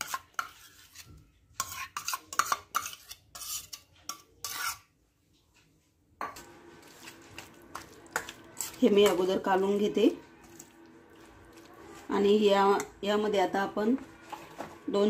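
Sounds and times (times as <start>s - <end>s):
spoon scraping a bowl: 0.0s - 4.9s, 6.2s - 13.0s, 14.0s - 14.8s.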